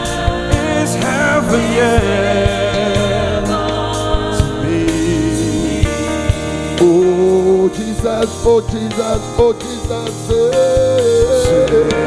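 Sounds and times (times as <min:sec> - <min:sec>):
drum hits: 0:00.0 - 0:10.4
band accompaniment: 0:00.0 - 0:12.0
voices singing gospel: 0:00.0 - 0:12.0.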